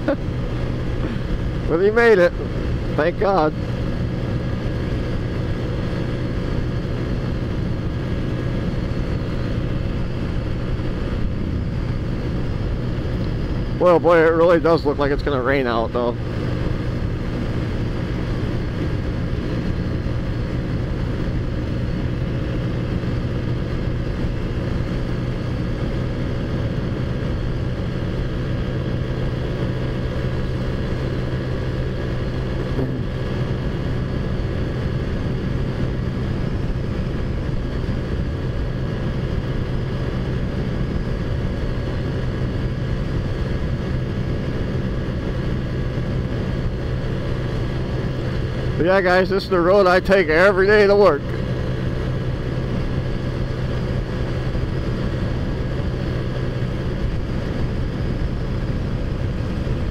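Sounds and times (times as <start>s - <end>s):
scooter engine droning: 0.0s - 59.9s.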